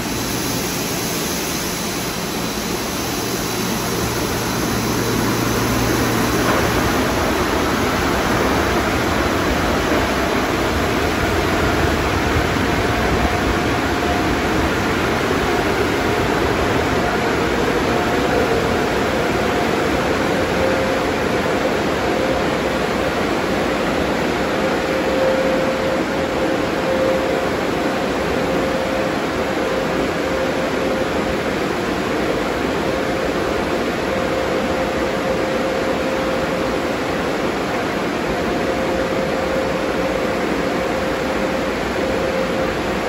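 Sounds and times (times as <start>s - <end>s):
faint machine whine: 0.0s - 43.0s.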